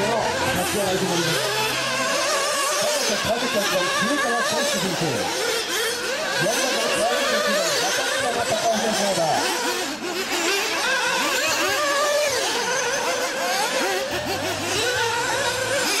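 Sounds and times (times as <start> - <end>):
small engines revving: 0.0 - 16.0.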